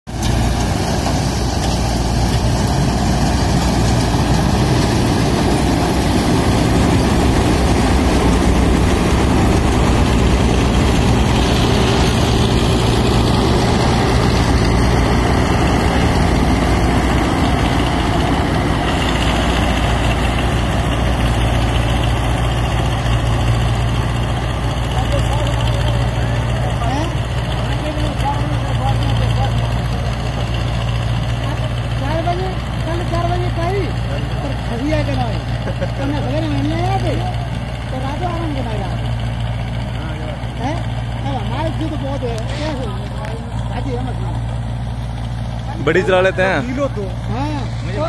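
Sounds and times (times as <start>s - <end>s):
combine harvester running: 0.1s - 48.0s.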